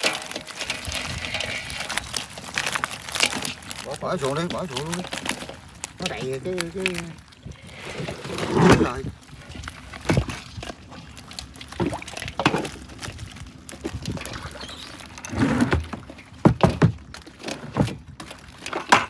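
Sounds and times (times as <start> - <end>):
water splashing and pouring: 0.0 - 19.0.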